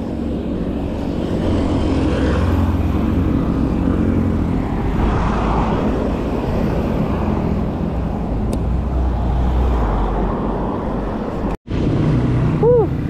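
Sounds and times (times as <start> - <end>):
motor traffic passing: 0.0 - 13.0
wind rushing over microphone: 0.0 - 13.0.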